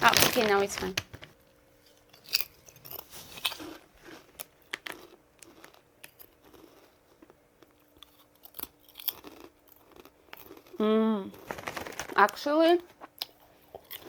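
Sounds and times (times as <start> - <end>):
person chewing crunchy chip: 1.9 - 12.2, 12.9 - 14.0.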